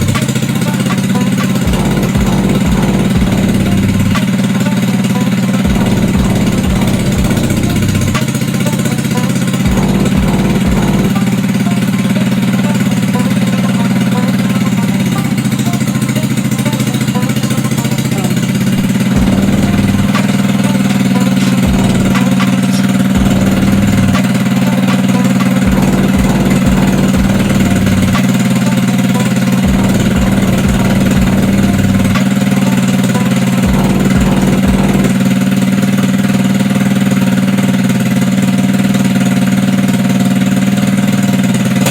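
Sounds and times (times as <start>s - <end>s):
scooter engine running: 0.0s - 41.9s.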